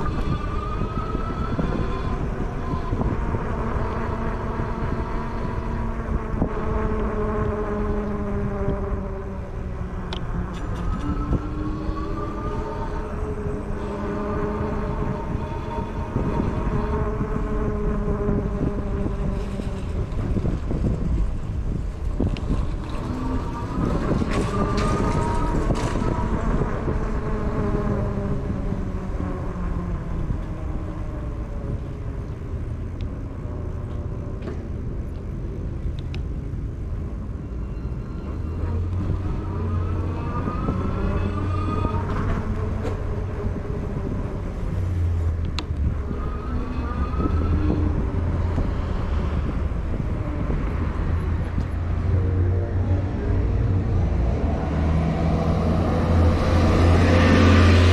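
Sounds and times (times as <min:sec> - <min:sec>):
low traffic rumble: 0:00.0 - 0:57.9
vehicles passing by: 0:00.0 - 0:57.9.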